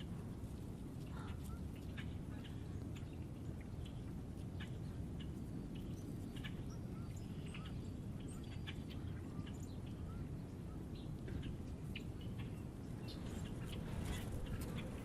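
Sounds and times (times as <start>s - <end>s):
low outdoor rumble: 0.0s - 15.0s
small songbirds chirping: 0.0s - 15.0s.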